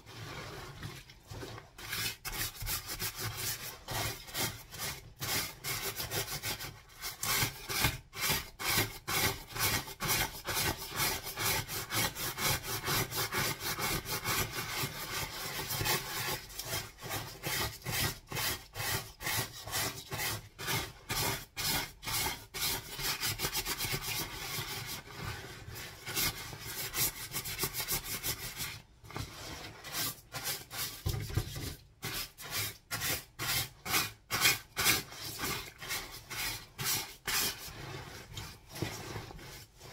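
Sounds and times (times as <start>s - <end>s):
brush scrubbing wet jacket: 0.0s - 39.9s.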